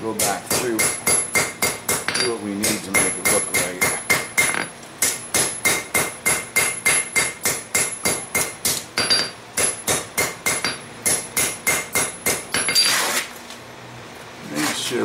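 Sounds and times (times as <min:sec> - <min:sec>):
hammer striking metal on anvil: 0:00.2 - 0:13.0.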